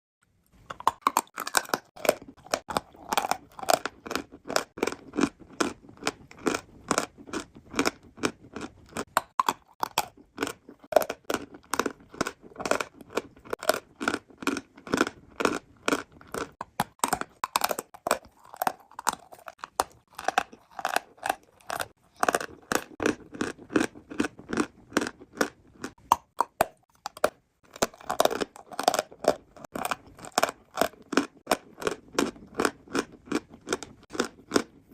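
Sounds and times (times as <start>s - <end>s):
crunching and chewing chalk: 0.2s - 34.9s.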